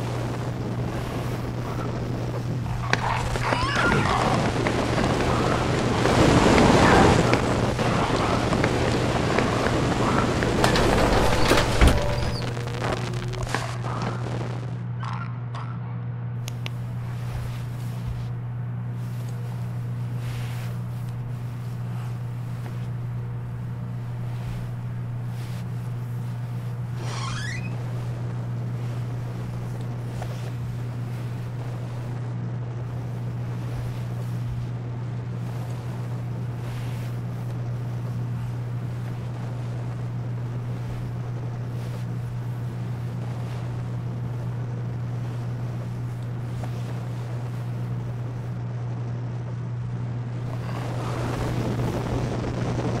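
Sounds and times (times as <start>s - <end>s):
noise hiss: 0.0s - 14.8s, 16.5s - 49.1s, 50.2s - 53.0s
low electrical hum: 0.0s - 53.0s.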